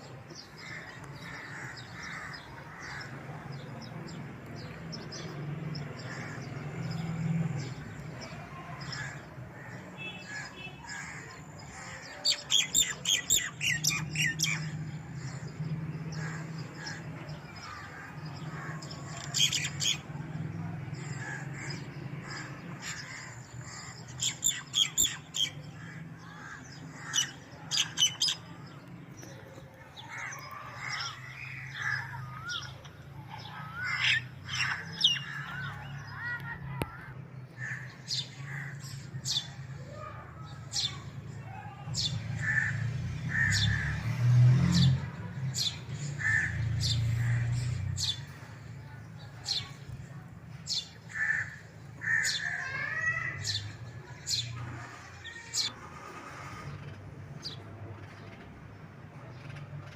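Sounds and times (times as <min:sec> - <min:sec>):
baby sparrows chirping: 0:00.4 - 0:20.2, 0:21.0 - 0:37.0, 0:37.6 - 0:41.2, 0:44.6 - 0:58.7.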